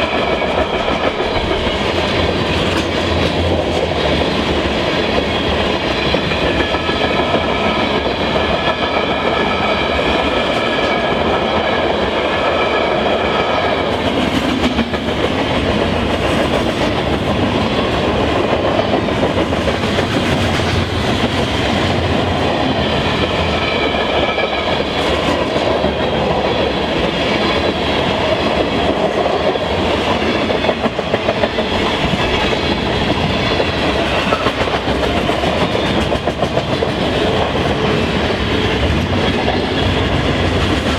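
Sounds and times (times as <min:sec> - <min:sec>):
clickety-clack over rail joints: 0:00.0 - 0:40.9
train wheels rolling on rail: 0:00.0 - 0:40.9.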